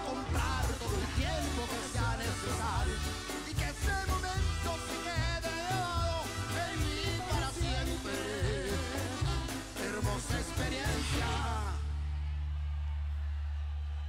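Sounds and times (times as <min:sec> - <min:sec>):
live band music: 0:00.0 - 0:11.9.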